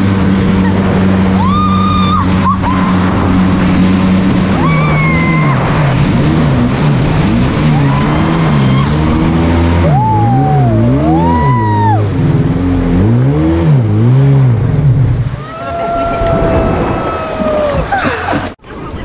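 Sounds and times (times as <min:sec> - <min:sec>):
jet ski engine running hard: 0:00.0 - 0:19.0
wind and spray rushing: 0:00.0 - 0:19.0.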